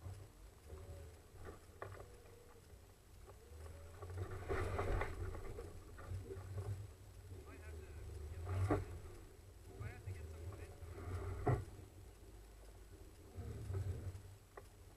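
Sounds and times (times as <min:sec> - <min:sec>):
off-road vehicle low rumble: 0:00.0 - 0:14.9.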